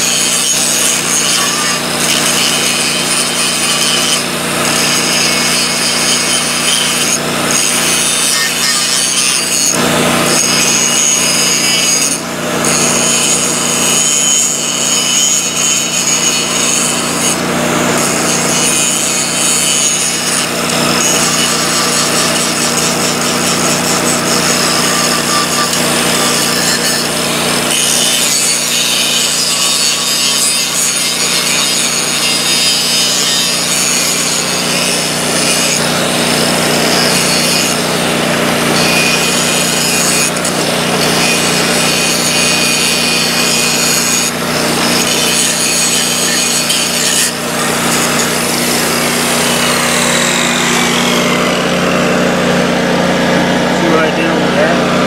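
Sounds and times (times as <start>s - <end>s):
grinder grinding steel: 0.0s - 55.0s.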